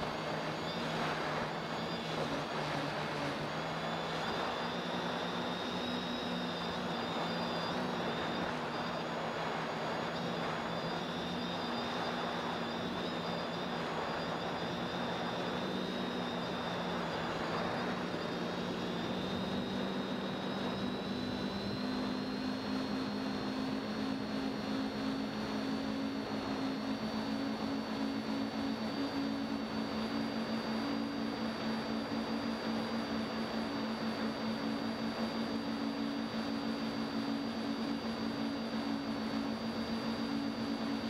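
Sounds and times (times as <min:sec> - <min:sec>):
drone propellers humming: 0:00.0 - 0:41.0.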